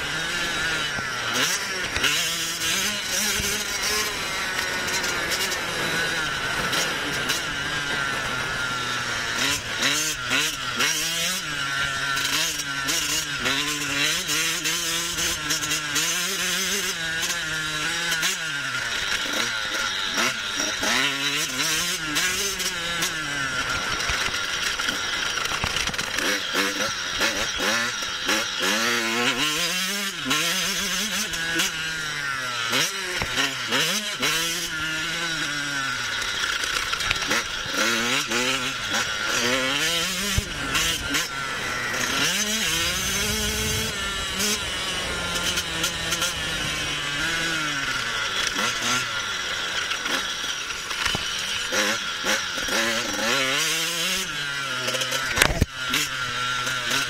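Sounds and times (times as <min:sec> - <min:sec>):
engine crackles: 0:00.0 - 0:57.0
motocross bike engine revving: 0:00.0 - 0:57.0.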